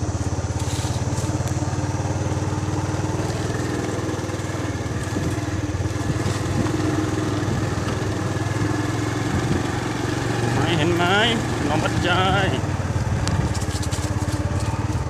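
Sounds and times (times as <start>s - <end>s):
motorcycle engine running slowly: 0.0s - 15.0s.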